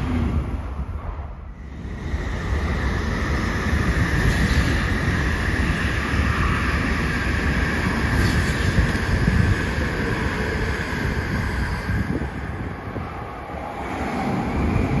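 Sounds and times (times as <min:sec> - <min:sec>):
bullet train passing at speed: 0:00.0 - 0:15.0.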